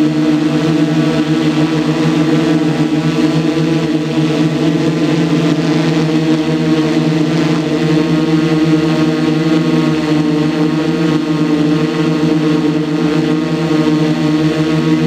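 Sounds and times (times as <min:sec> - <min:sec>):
small engine running at high speed: 0:00.0 - 0:15.0.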